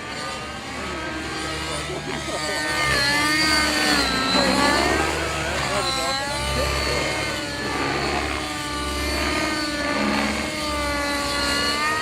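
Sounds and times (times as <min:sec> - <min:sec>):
model helicopter motor and rotor: 0:00.0 - 0:12.0.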